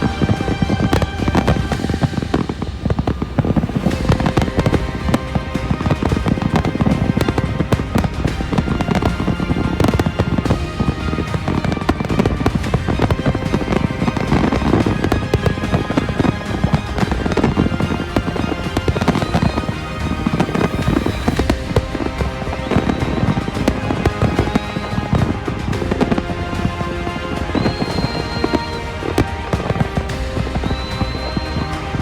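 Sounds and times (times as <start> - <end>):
fireworks bangs and crackles: 0.0 - 32.0
music playing: 0.0 - 32.0.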